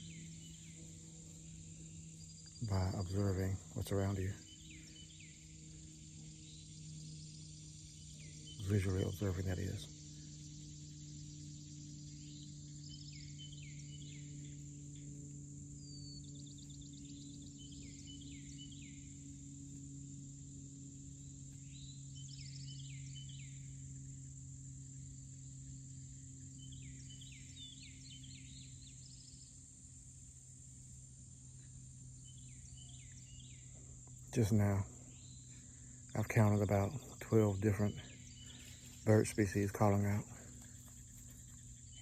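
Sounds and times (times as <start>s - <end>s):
insects droning: 0.0s - 42.0s
low steady hum: 0.0s - 42.0s
songbird singing: 0.0s - 42.0s.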